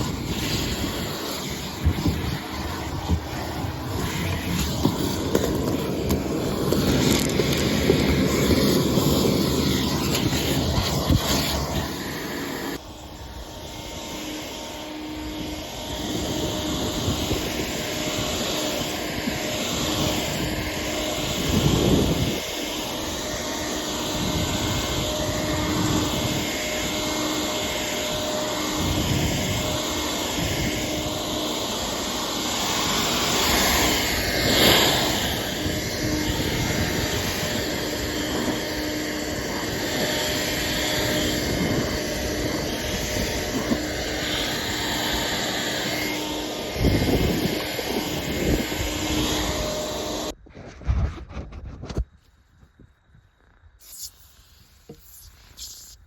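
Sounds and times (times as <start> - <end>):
vacuum cleaner running: 0.0 - 50.4.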